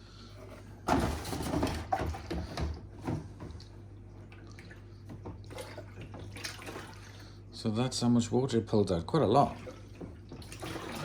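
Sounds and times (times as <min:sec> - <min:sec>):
water sloshing in plastic tank: 0:00.4 - 0:07.6, 0:08.9 - 0:11.0.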